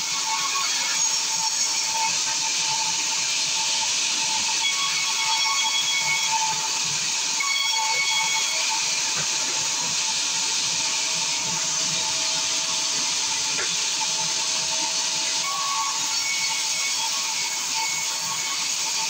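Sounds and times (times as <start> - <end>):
band saw cutting timber: 0.0 - 19.0.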